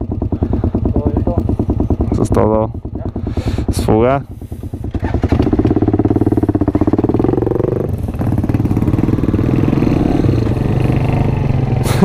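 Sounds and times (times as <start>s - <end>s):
small motorcycle engine: 0.0s - 12.0s.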